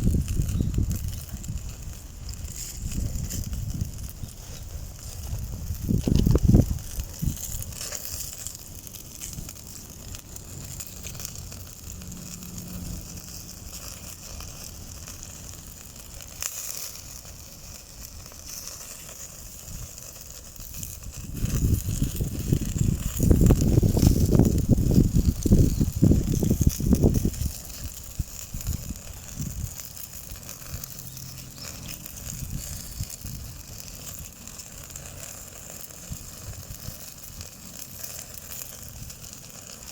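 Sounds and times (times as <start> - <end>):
charcoal fire hissing and crackling: 0.0 - 39.9
low rumbling buffets: 0.0 - 39.9.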